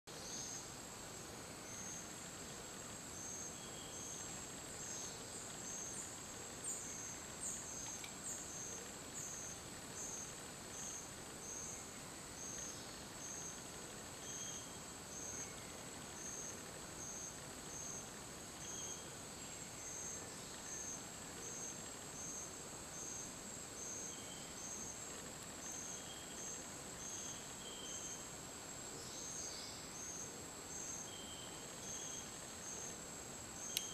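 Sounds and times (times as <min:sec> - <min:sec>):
insect chirp pulsing: 0:00.1 - 0:33.9
insects buzzing: 0:00.1 - 0:33.9.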